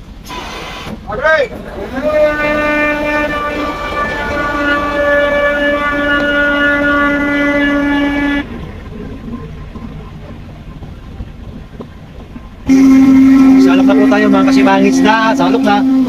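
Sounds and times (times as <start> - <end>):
loud pitched machinery drone: 0.0 - 16.0
rumble of machinery: 0.0 - 16.0.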